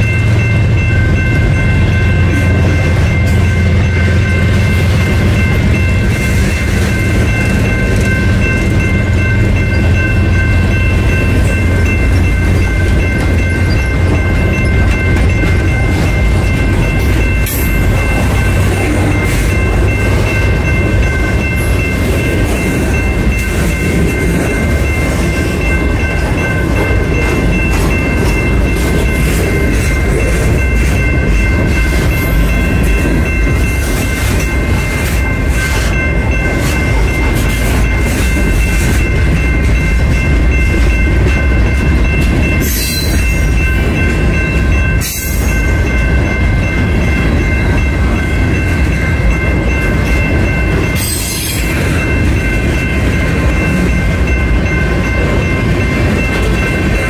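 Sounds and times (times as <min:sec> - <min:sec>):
freight train wheels rumbling: 0:00.0 - 0:57.0
high ringing: 0:00.0 - 0:57.0.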